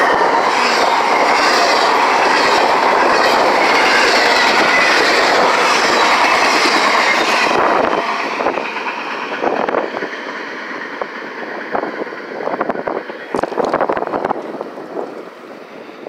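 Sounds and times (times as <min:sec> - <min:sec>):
train wheels rattling on rails: 0:00.0 - 0:16.0.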